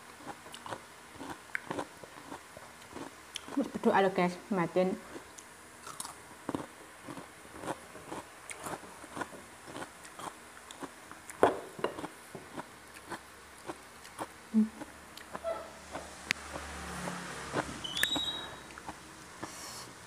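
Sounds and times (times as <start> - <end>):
cucumber chewing crunches: 0.1 - 3.8, 5.1 - 19.7.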